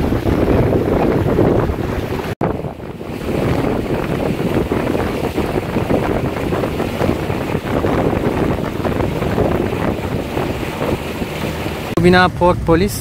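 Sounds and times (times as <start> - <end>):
water washing under boat: 0.0 - 13.0
wind buffeting microphone: 0.0 - 13.0.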